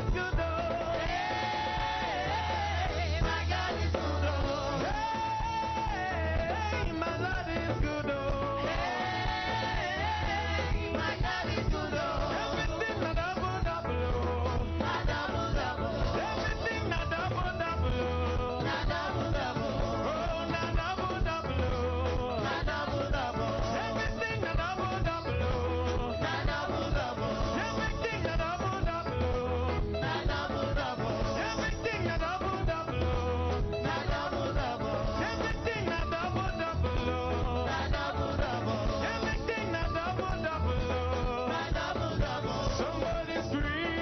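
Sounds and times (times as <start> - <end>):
bass beat: 0.0 - 44.0
gospel worship music: 0.0 - 44.0
people singing: 0.0 - 44.0.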